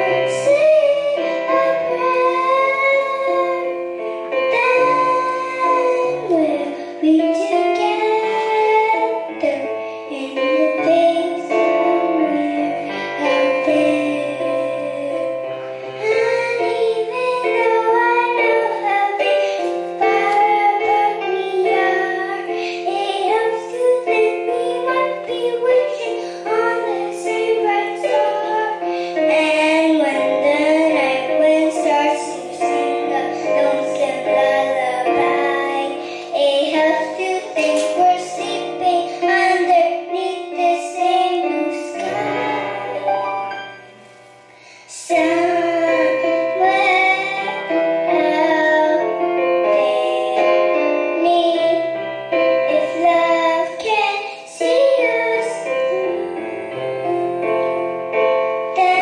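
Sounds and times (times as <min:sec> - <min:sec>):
girl singing into a microphone: 0:00.0 - 0:59.0
instrumental accompaniment: 0:00.0 - 0:59.0.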